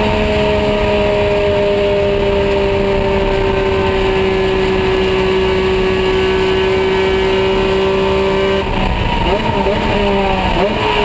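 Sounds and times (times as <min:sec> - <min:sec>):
race car engine from cockpit: 0:00.0 - 0:11.0.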